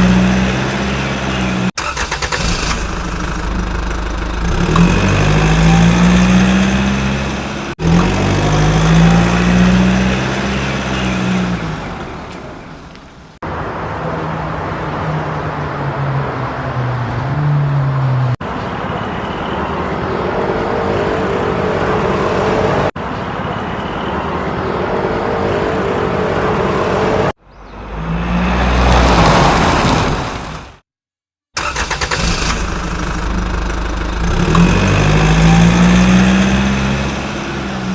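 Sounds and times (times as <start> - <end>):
motor vehicle engine: 0.0 - 18.5, 24.5 - 30.8, 31.6 - 37.9.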